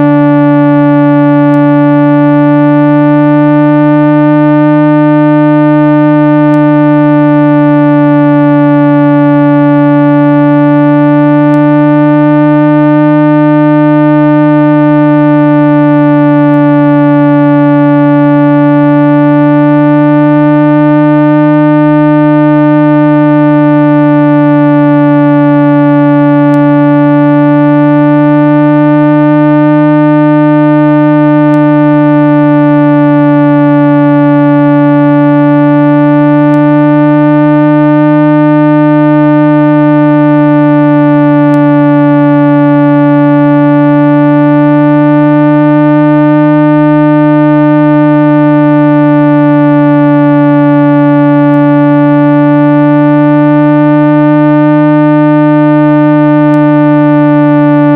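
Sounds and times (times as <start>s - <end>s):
loud synthesized low tone: 0.0s - 57.9s.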